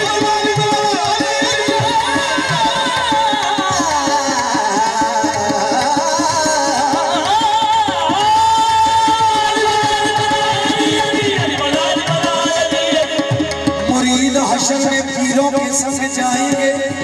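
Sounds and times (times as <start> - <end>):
harmonium chords: 0.0 - 17.0
lead voice singing: 0.0 - 17.0
percussion beat: 0.0 - 17.0.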